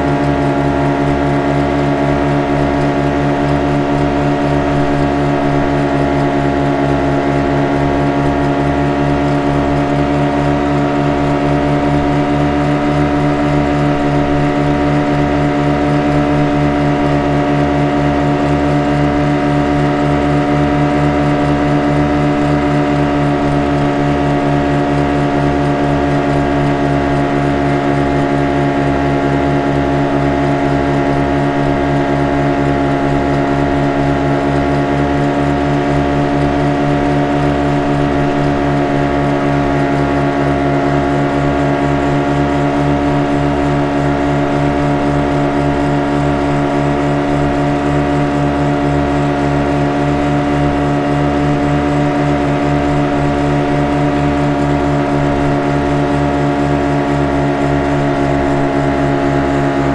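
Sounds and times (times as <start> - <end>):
speed boat engine droning: 0.0 - 59.9.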